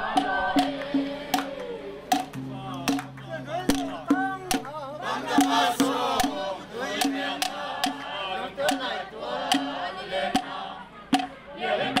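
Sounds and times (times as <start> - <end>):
group singing and chanting: 0.0 - 12.0
steady drum beat: 0.0 - 12.0.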